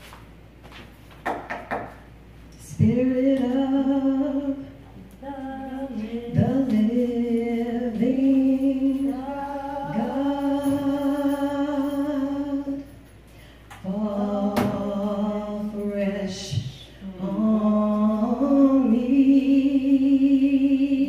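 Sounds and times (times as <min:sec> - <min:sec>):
woman singing unaccompanied: 0:02.6 - 0:13.0, 0:13.8 - 0:21.0.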